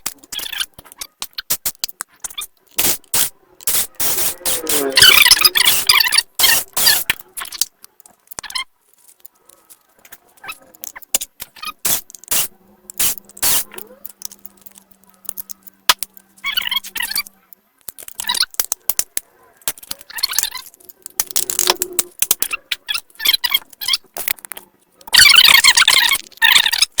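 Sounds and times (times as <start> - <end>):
clicks and rattles of small tools: 0.0 - 27.0.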